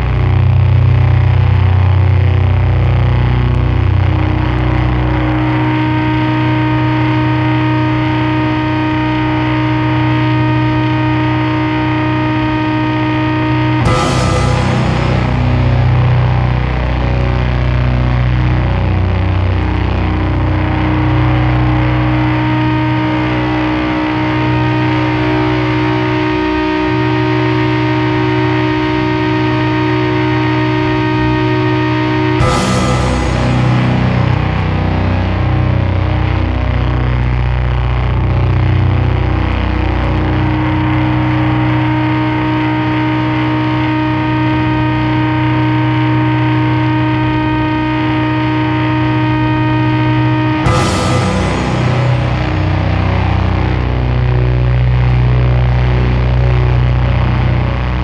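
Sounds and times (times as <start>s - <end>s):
distorted guitars droning chord: 0.0s - 58.0s.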